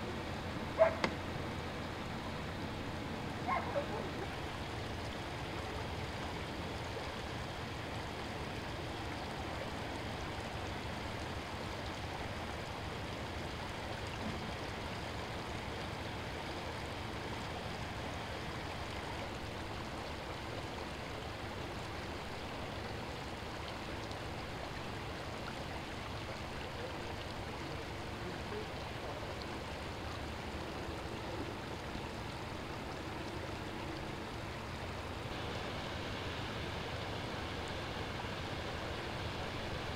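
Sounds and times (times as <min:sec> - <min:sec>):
water flowing over concrete: 0:00.0 - 0:39.9.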